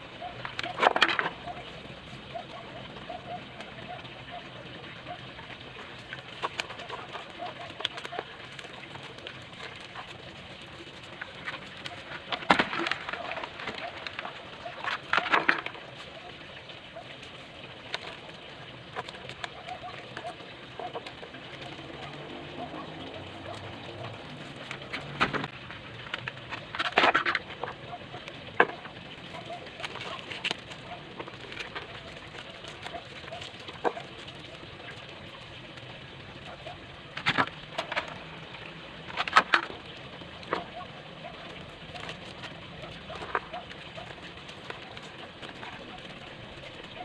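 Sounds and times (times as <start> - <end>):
crackling clatter: 0.0 - 47.0
doves cooing: 0.0 - 47.0
small clicks and rustles: 0.2 - 47.0.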